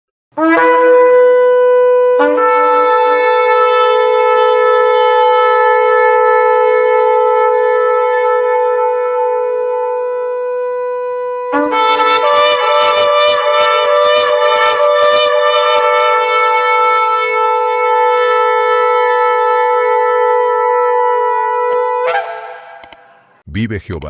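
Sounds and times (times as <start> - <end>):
shofar blasts: 0.4 - 23.4.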